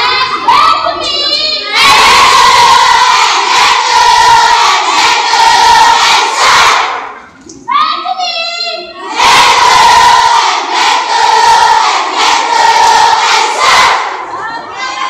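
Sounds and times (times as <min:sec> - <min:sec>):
group shouting and cheering: 0:00.0 - 0:07.1, 0:09.0 - 0:15.0.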